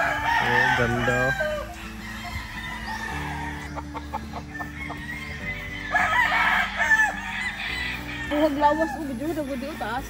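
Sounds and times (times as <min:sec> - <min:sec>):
roosters clucking: 0:00.0 - 0:10.0
soft background music: 0:00.0 - 0:10.0.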